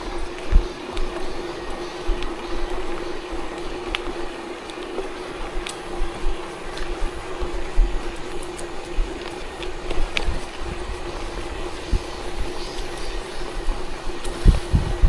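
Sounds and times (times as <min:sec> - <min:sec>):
tyres rolling over gravel: 0:00.0 - 0:14.8
small stones ticking: 0:00.0 - 0:15.0
wind buffeting microphone: 0:00.0 - 0:15.0.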